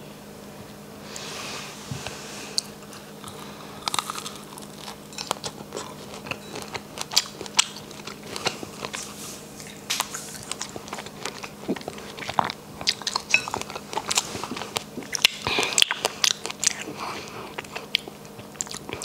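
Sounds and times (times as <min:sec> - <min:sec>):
person chewing with crunches: 0:01.1 - 0:19.0.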